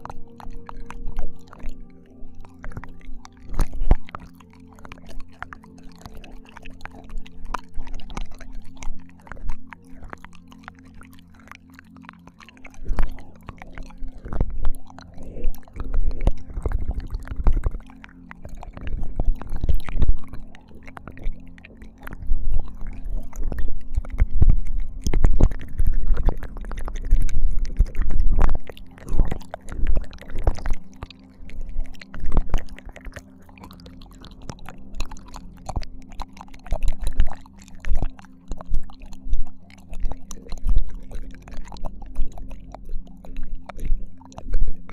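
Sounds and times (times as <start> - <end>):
wet mouth clicks and slurps: 0.0 - 44.9.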